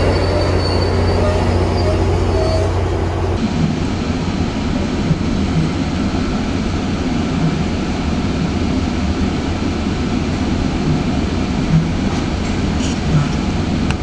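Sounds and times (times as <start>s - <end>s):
train coach rumble: 0.0s - 14.0s.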